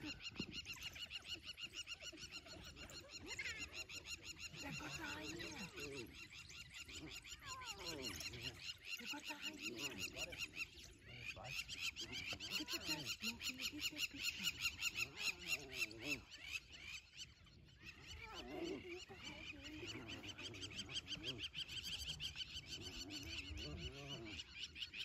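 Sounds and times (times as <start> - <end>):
animals squealing and yelping: 0.0 - 25.0.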